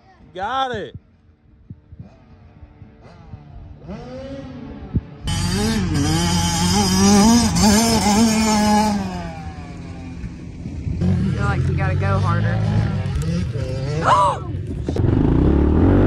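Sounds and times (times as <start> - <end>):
dirt bike engine revving: 1.7 - 16.0.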